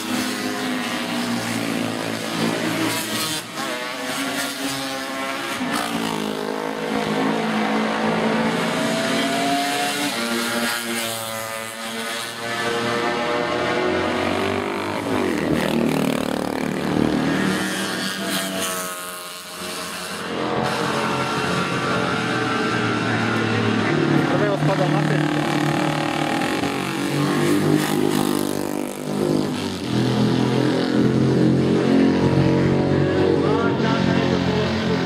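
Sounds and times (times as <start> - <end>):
racing motorcycles passing: 0.0 - 35.0.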